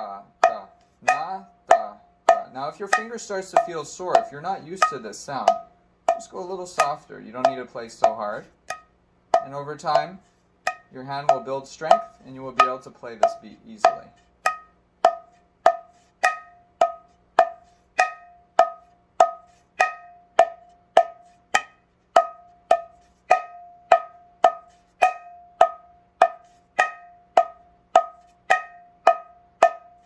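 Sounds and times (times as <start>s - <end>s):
drum finger strokes: 0.0s - 30.0s.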